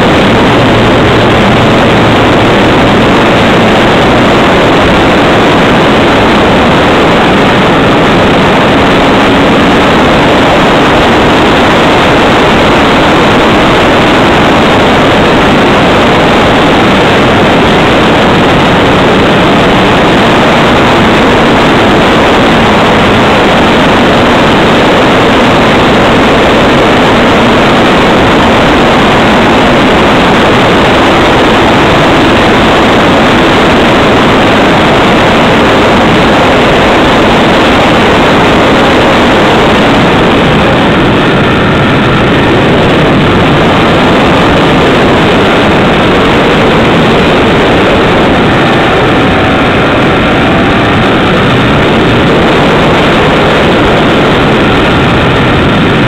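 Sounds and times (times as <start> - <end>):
wind and propeller rush: 0.0 - 56.0.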